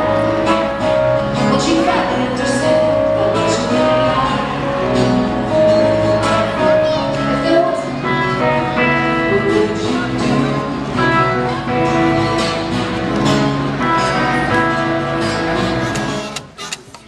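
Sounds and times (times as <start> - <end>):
live band with guitar: 0.0 - 17.0.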